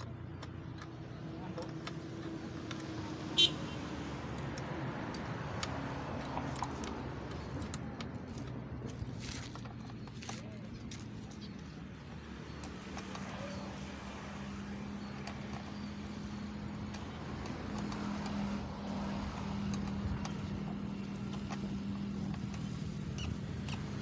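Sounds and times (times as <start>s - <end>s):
road traffic noise: 0.0s - 24.0s
vehicle engine humming: 0.0s - 24.0s.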